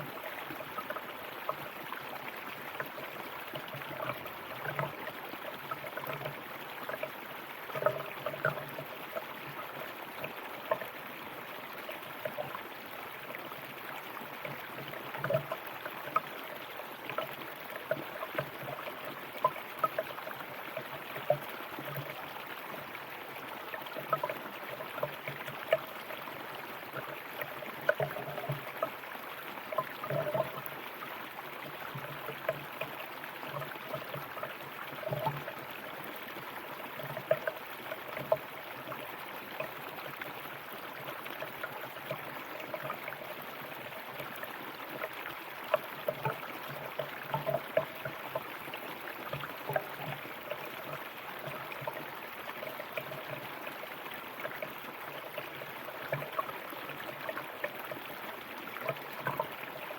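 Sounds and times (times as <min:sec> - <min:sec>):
river water flowing: 0:00.0 - 0:59.9
water gurgling and splashing: 0:00.0 - 0:59.9.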